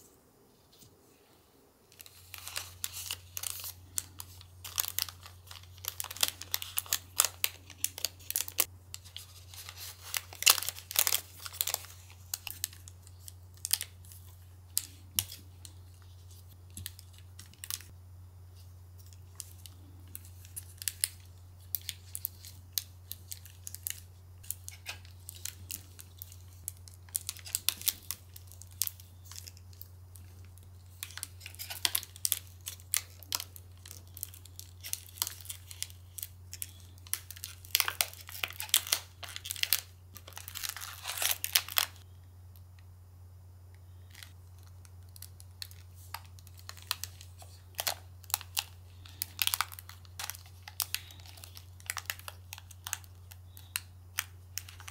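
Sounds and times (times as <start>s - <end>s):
steady low hum: 0.0s - 54.9s
plastic bag crinkling: 1.9s - 17.9s, 19.0s - 42.0s, 44.0s - 54.9s.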